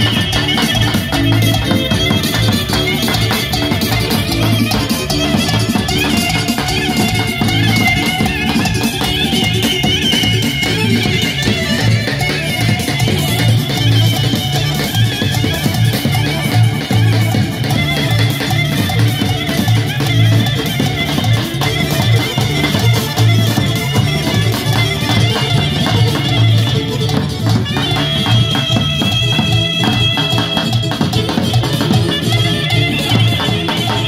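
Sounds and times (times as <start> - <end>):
high melody line: 0.0 - 34.0
large drum beating: 0.0 - 34.0.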